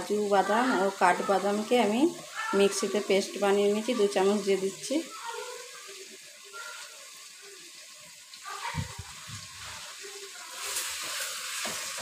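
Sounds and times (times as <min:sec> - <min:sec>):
meat frying in a pot: 0:00.0 - 0:12.0.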